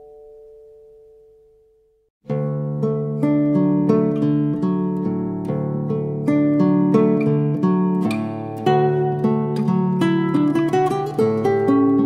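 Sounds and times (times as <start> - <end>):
acoustic guitar picking notes: 2.2 - 12.0.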